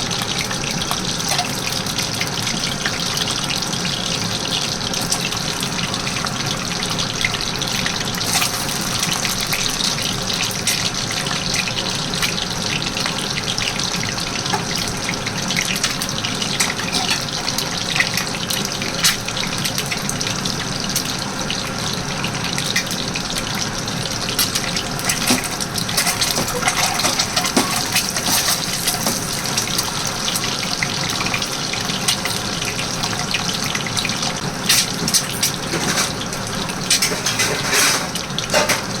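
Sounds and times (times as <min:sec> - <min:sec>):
running water: 0:00.0 - 0:39.0.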